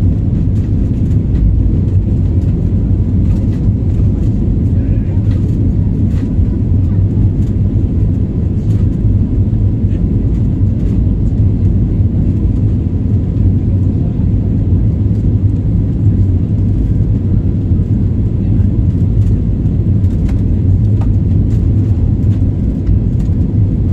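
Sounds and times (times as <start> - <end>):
jet engine and airflow rumble: 0.0 - 23.9.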